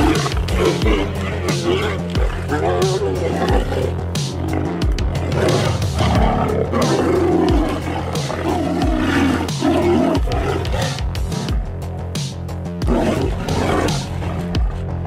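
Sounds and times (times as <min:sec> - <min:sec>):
tigers snarling and roaring: 0:00.0 - 0:11.8, 0:12.7 - 0:15.0.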